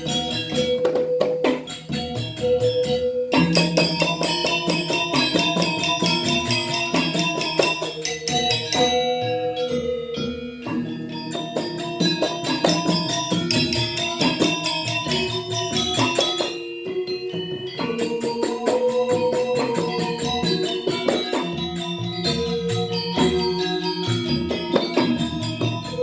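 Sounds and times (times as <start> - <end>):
gamelan music: 0.0 - 26.0.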